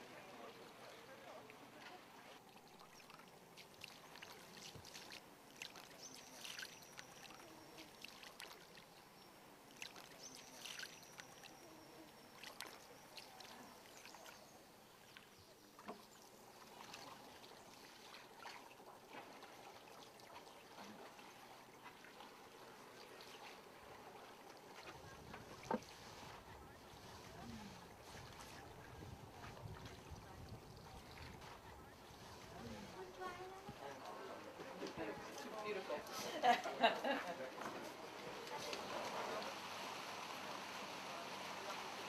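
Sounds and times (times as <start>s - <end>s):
oars splashing water: 0.0s - 42.0s.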